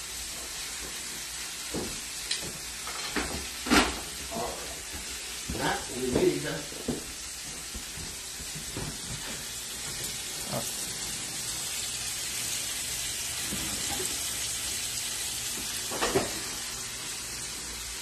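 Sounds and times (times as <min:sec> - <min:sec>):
steak sizzling in a pan: 0:00.0 - 0:18.0.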